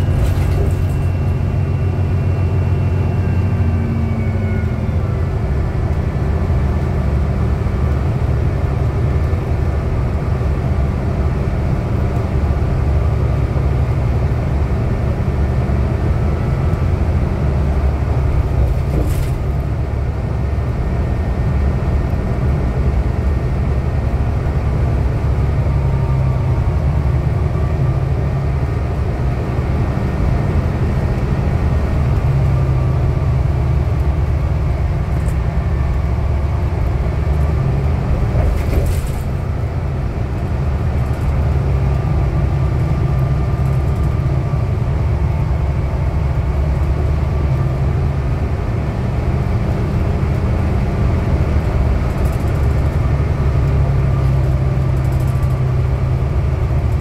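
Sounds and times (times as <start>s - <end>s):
bus engine rumble: 0.0s - 57.0s
road noise: 0.0s - 57.0s.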